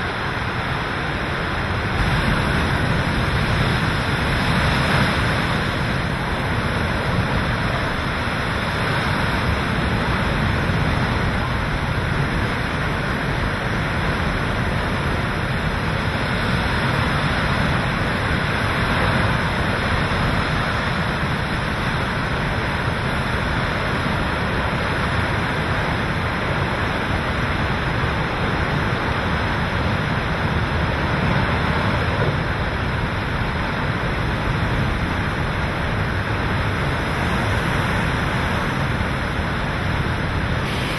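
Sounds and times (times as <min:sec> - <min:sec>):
driving rain: 0:00.0 - 0:40.9
hurricane-force wind: 0:00.0 - 0:40.9.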